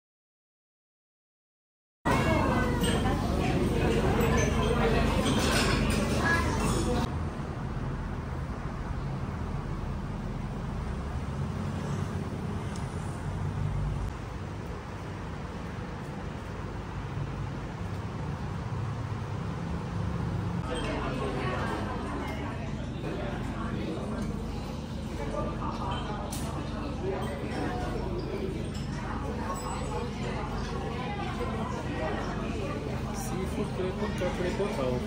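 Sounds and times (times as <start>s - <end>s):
city street traffic rumble: 2.1s - 35.0s.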